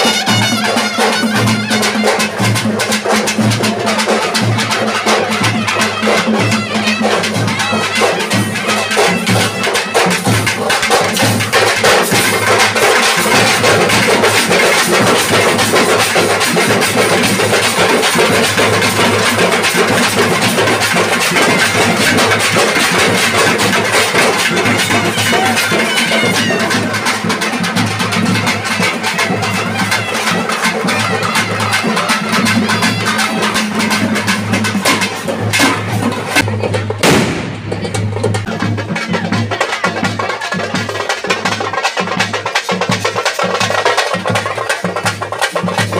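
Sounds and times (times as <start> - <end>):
drums played fast: 0.0 - 45.9.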